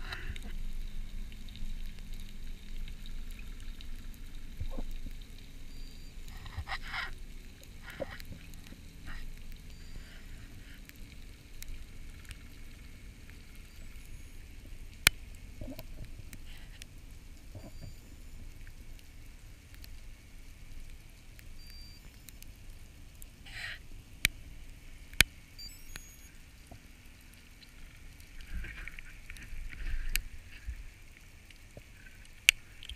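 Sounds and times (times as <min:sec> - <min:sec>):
faint crackles: 0:00.0 - 0:32.9.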